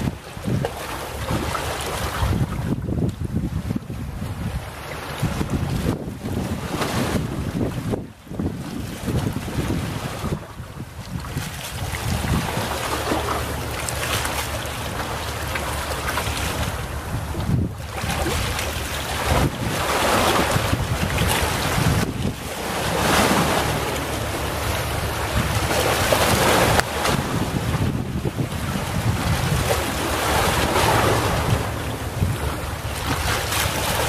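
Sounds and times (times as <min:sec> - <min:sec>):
small waves washing onto beach: 0:00.0 - 0:34.0
wind rumble on microphone: 0:00.0 - 0:34.0.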